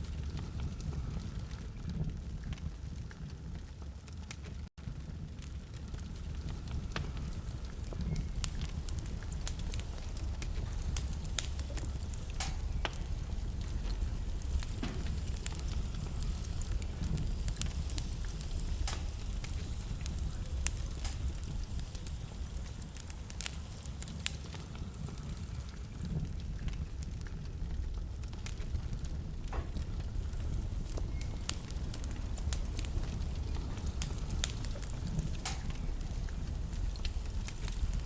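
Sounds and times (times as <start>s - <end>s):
logs crackling and popping: 0.0s - 38.0s
low rumble of flames: 0.0s - 38.0s.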